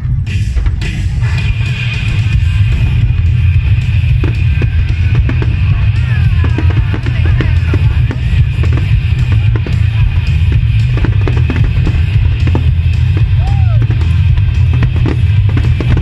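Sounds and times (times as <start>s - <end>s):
drum-heavy music with heavy bass: 0.0s - 16.0s
fireworks bangs and crackles: 0.0s - 16.0s.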